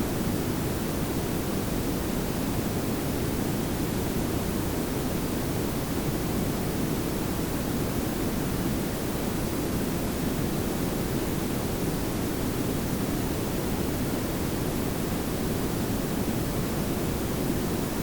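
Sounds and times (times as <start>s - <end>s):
steady noise hiss: 0.0s - 18.0s.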